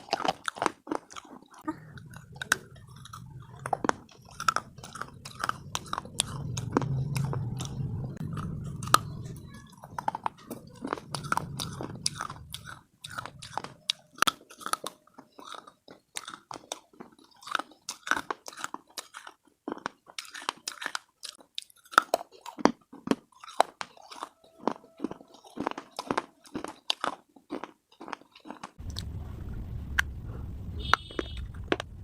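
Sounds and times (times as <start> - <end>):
slate being chewed: 0.0 - 29.1.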